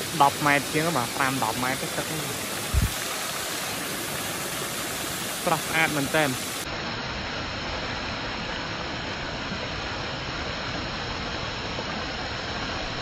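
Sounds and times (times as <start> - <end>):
waterfall cascading down rocks: 0.0 - 13.0.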